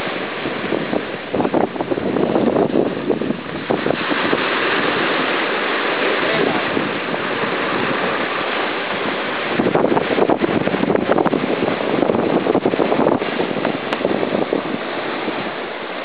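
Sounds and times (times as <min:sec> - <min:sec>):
choppy waves and spray: 0:00.0 - 0:16.0
wind buffeting microphone: 0:00.0 - 0:16.0.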